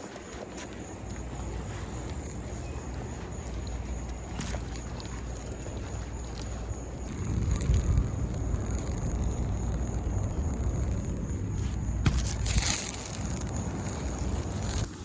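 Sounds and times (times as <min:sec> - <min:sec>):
rustling and scraping: 0:00.0 - 0:15.0
steady low rumble: 0:00.0 - 0:15.0.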